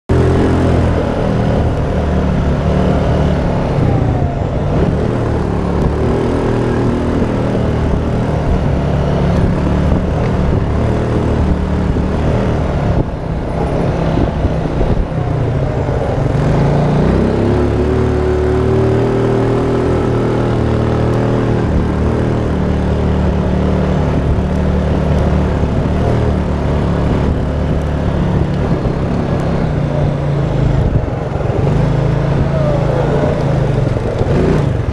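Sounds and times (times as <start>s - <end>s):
atv engine running: 0.1s - 34.9s.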